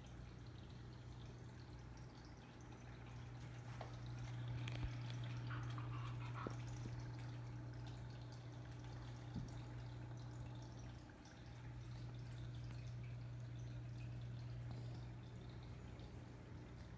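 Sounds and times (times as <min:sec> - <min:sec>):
low motor hum: 0:00.0 - 0:16.9
water trickling and dripping: 0:00.0 - 0:16.9.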